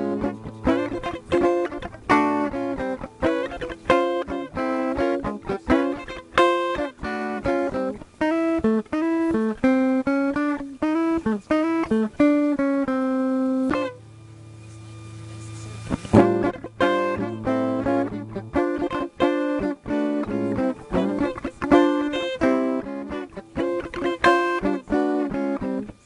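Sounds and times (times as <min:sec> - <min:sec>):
electric guitar melody: 0:00.0 - 0:26.0
low steady amp hum: 0:00.0 - 0:26.0.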